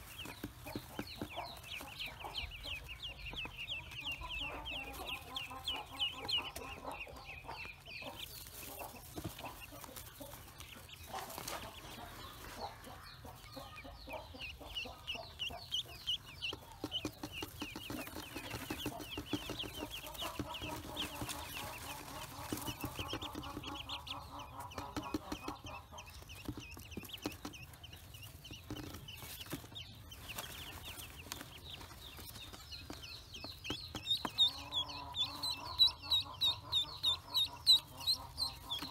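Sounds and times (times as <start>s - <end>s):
ducklings peeping: 0.0s - 38.9s.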